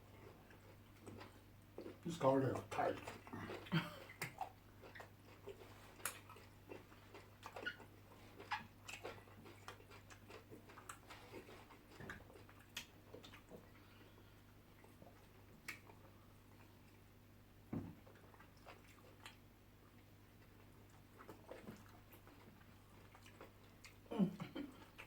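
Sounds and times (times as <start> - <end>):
close-up chewing mouth smacks: 0.1 - 2.0, 2.6 - 17.1, 17.8 - 25.0.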